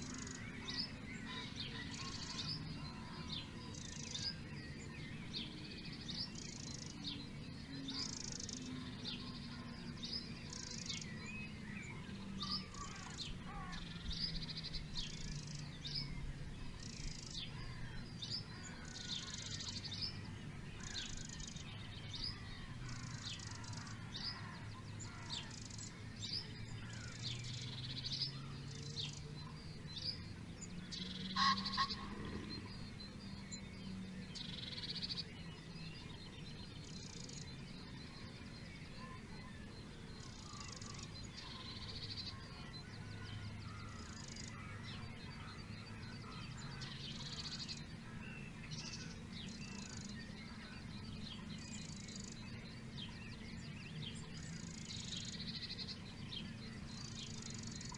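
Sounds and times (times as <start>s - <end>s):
faint low drone: 0.0s - 57.9s
songbirds chirping and trilling: 0.0s - 57.9s.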